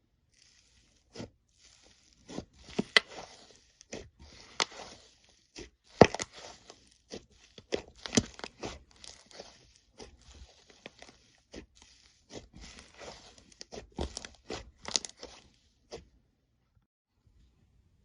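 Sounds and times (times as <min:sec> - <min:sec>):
slime squishing and popping: 0:00.4 - 0:15.4.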